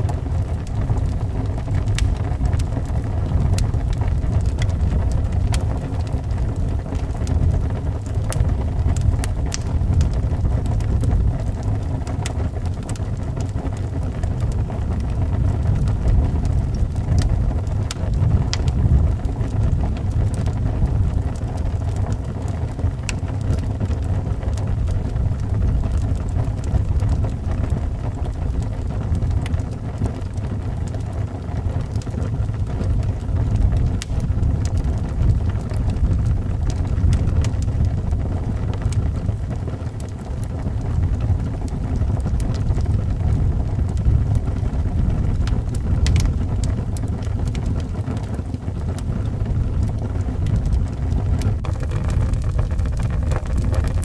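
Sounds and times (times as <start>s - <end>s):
howling wind: 0.0s - 54.0s
wood fire crackling: 0.0s - 54.0s.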